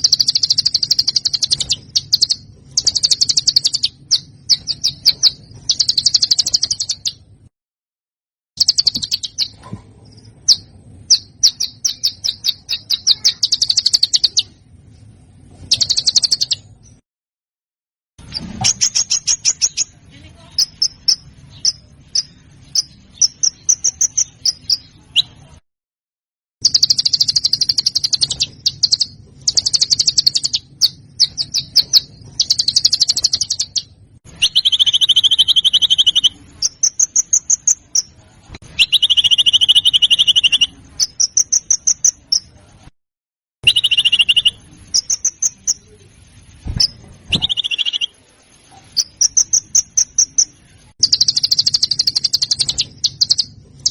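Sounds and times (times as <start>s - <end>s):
songbird trills and chattering: 0.0s - 7.2s, 8.6s - 14.6s, 15.7s - 16.8s, 18.2s - 25.5s, 26.6s - 42.6s, 43.6s - 46.1s, 46.7s - 48.2s, 48.8s - 53.9s.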